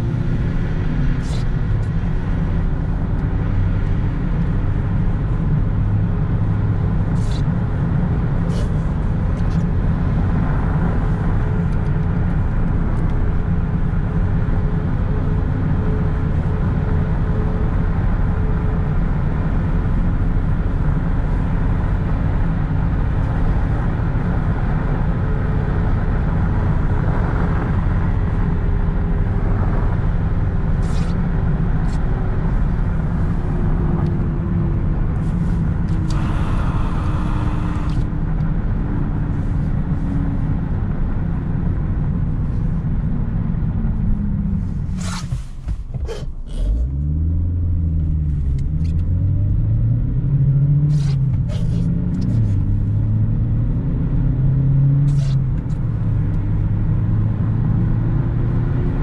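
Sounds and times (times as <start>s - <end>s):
car engine running: 0.0s - 50.2s
road rumble: 0.0s - 59.0s.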